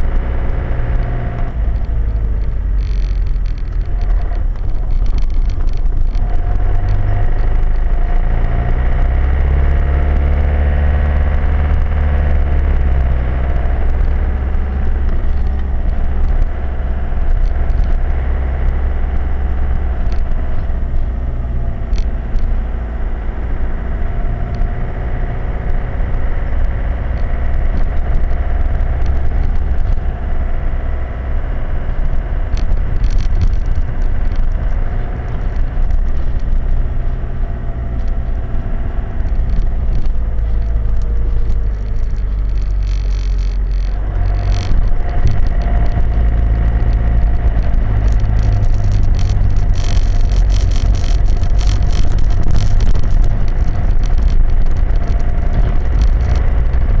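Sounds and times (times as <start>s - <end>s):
small rattles and clicks: 0.0s - 57.0s
vehicle engine and road rumble: 0.0s - 57.0s.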